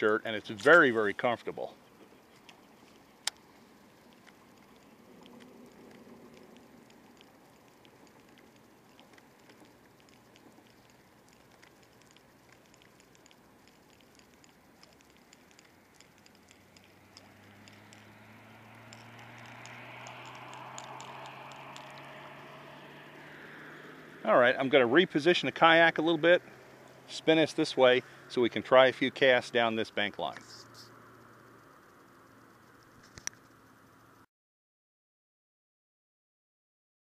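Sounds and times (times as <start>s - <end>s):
small ticks and patter: 0.0s - 34.2s
faint low hum: 0.0s - 34.3s.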